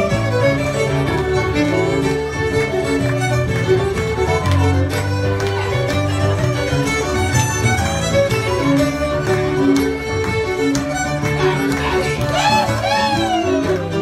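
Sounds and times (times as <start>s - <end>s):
bowed fiddle melody: 0.0s - 14.0s
keyboard accompaniment: 0.0s - 14.0s.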